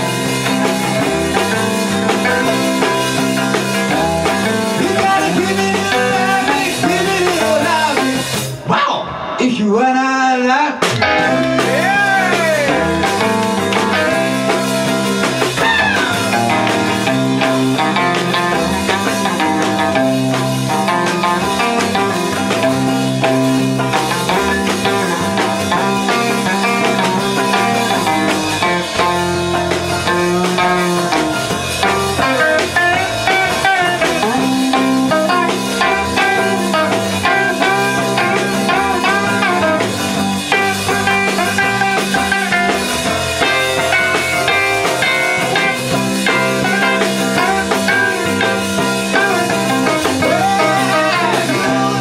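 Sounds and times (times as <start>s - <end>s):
lead guitar bending notes: 0.0s - 9.4s, 10.8s - 52.0s
live rock and roll band: 0.0s - 52.0s.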